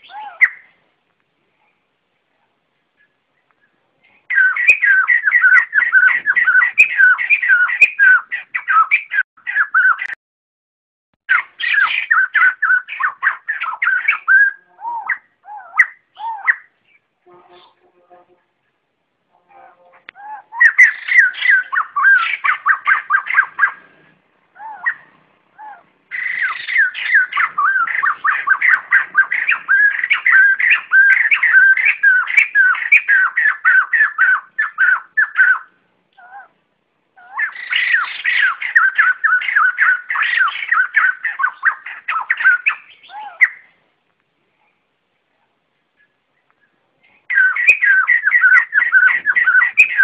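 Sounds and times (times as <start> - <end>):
birds chattering calls: 0.0 - 0.8, 2.9 - 10.2, 11.3 - 17.9, 19.6 - 43.8, 45.9 - 50.0.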